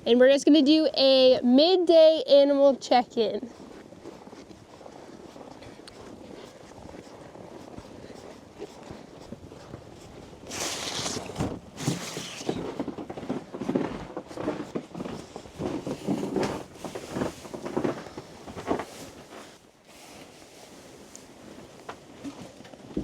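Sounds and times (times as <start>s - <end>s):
footsteps crunching through snow: 3.5s - 22.6s.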